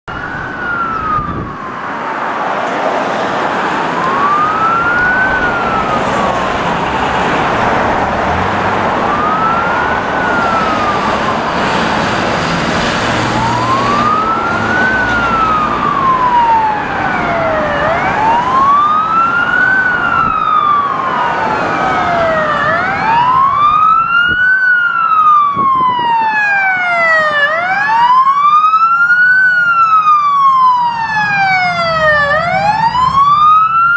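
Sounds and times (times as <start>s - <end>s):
passing traffic rush: 0.0s - 33.9s
police sirens wailing: 0.0s - 33.9s.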